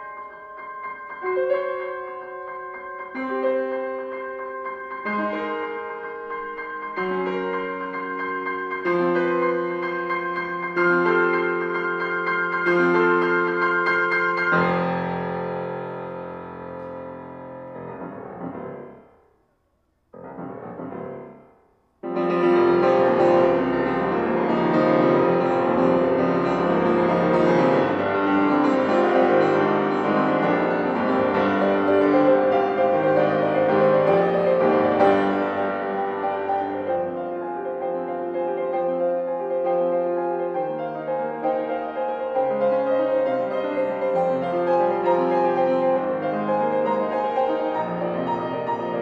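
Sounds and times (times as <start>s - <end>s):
piano chords: 0.0s - 49.0s.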